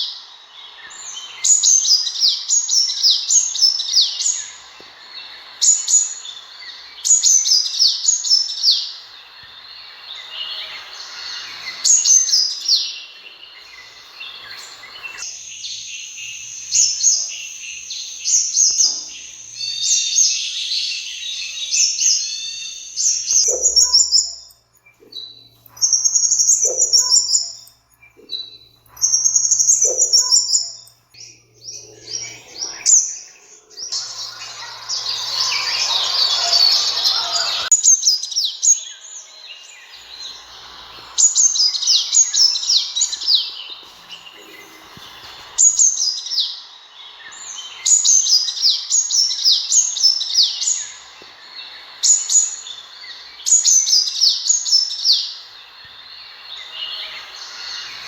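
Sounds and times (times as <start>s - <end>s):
bird chirping and twittering: 0.0s - 58.0s.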